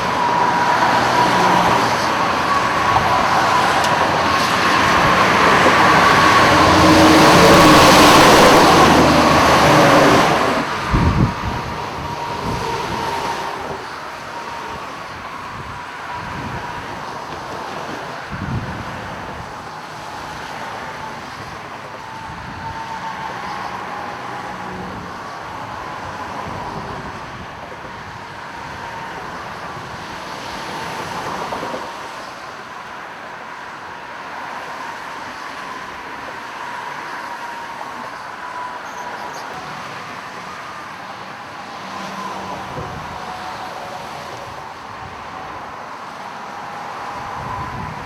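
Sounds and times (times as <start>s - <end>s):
road traffic noise: 0.0s - 48.0s.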